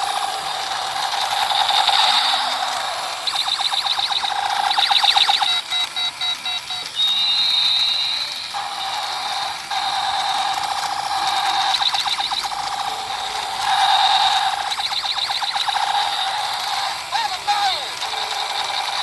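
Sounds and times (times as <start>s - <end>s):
electronic toy beeping: 0.0s - 19.0s.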